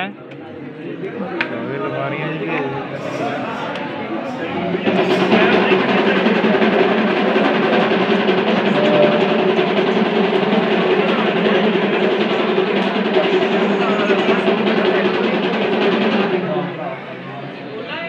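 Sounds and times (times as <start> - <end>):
loud continuous drumming: 0.7 - 17.7
music: 2.7 - 17.2.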